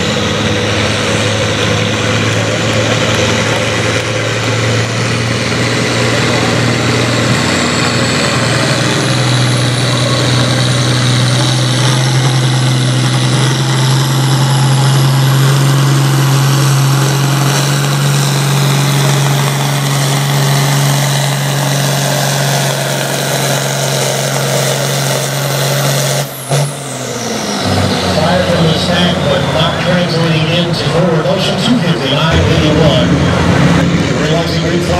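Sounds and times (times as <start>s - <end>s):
tractor diesel engine at full throttle: 0.0s - 34.9s.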